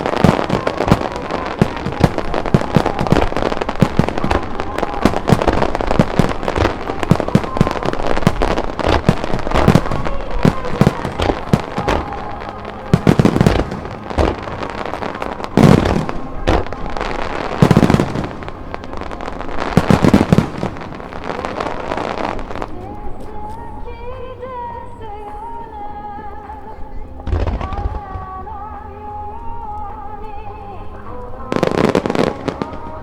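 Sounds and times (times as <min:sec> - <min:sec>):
heavy fireworks booms: 0:00.0 - 0:23.2, 0:27.2 - 0:33.0
fireworks popping and crackling: 0:00.0 - 0:33.0.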